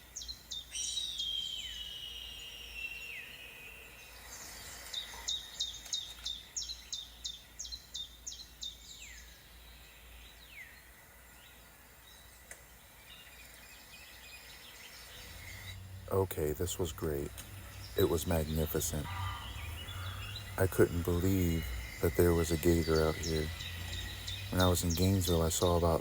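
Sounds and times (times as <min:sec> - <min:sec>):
faint outdoor hiss: 0:00.0 - 0:26.0
songbird singing: 0:00.0 - 0:26.0.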